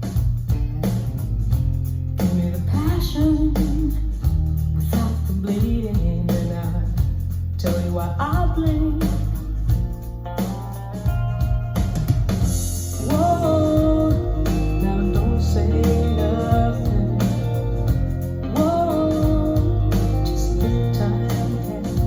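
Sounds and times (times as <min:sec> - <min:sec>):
song with bass and guitar: 0:00.0 - 0:22.0.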